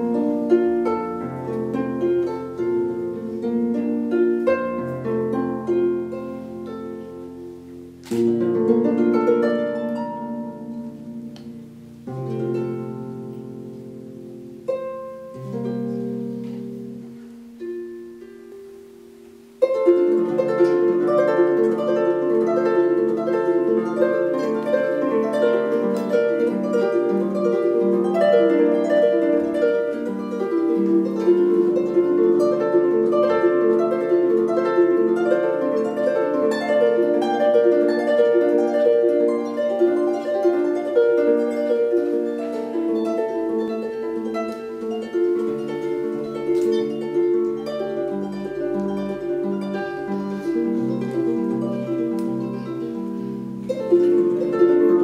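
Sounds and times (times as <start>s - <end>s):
harp arpeggios: 0.0s - 55.0s.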